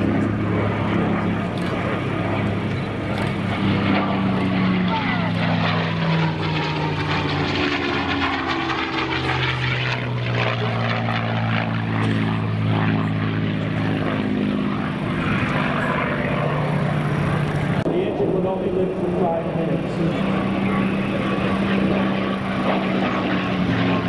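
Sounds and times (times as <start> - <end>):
propeller plane engine in flight: 0.0 - 24.0.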